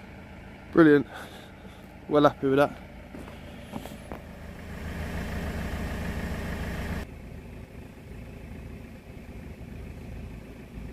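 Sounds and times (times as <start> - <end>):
low hum: 0.0 - 10.9
truck engine idling: 0.0 - 10.9.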